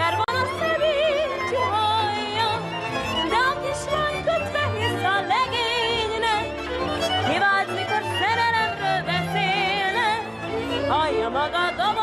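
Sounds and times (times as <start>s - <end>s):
violin melody with vibrato: 0.0s - 12.0s.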